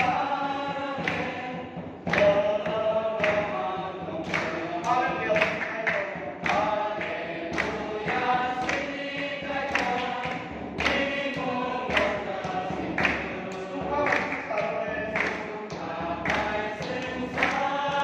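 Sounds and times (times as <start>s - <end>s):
congregation singing a hymn: 0.0s - 18.0s
sharp beat: 0.0s - 18.0s.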